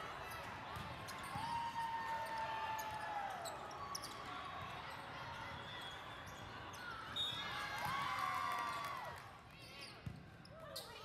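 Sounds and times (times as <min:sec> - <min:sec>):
echoing sports hall noise: 0:00.0 - 0:11.0.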